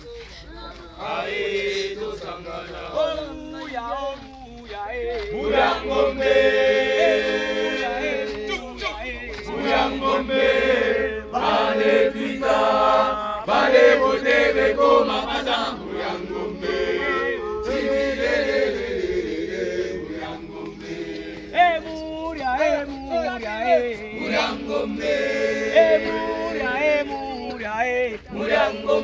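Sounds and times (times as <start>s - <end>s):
group chanting in unison: 0.0s - 29.0s.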